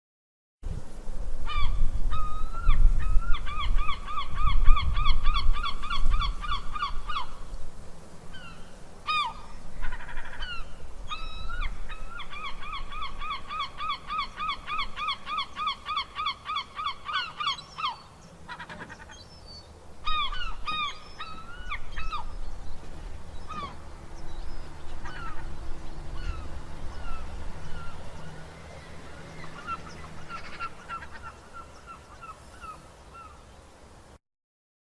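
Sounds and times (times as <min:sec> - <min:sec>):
seagulls calling: 0:01.5 - 0:07.5, 0:08.3 - 0:33.5.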